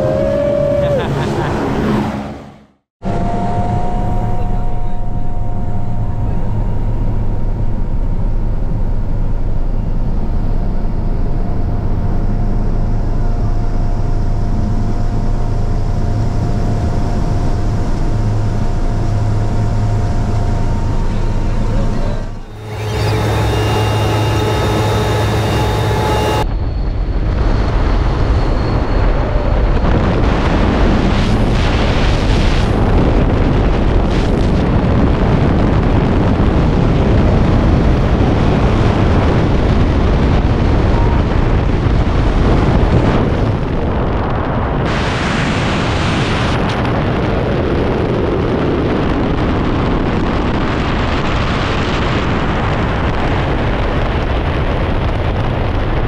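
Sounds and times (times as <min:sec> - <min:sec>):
aircraft engine drone: 0:00.0 - 0:56.0
wind rushing on microphone: 0:03.0 - 0:56.0.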